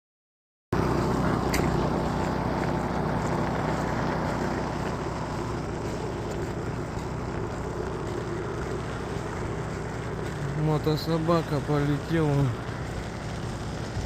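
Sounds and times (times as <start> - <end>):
small tow sled engine running: 0.7 - 14.0.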